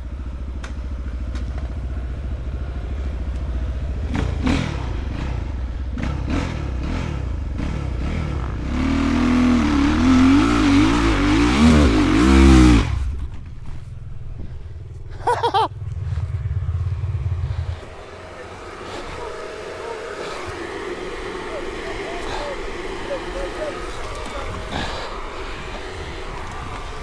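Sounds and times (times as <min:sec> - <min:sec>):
low steady engine hum: 0:00.0 - 0:27.0
motorcycle engine revving: 0:00.0 - 0:27.0.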